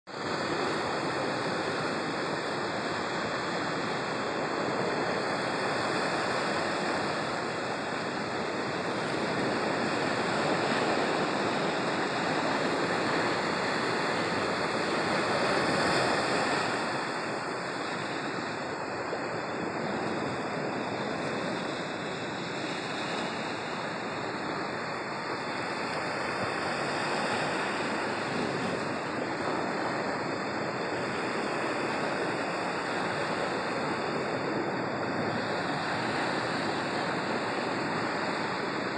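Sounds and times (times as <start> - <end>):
ocean surf breaking over rocks: 0.2 - 38.9.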